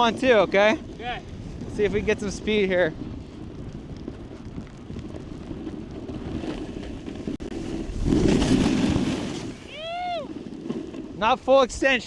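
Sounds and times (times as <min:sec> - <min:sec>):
snowboard scraping on snow: 0:00.0 - 0:12.0
wind over microphone: 0:00.0 - 0:12.0.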